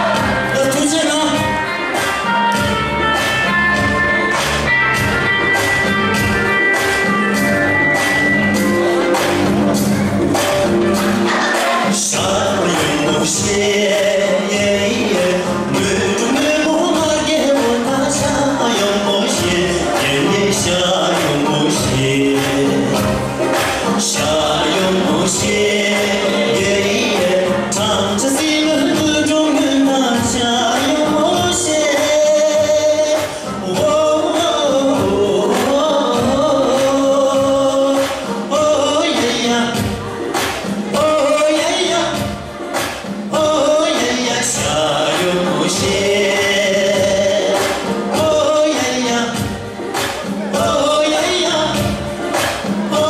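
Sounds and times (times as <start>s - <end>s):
man singing into a microphone: 0.0s - 3.1s, 11.6s - 53.0s
backing music with a beat: 0.0s - 53.0s.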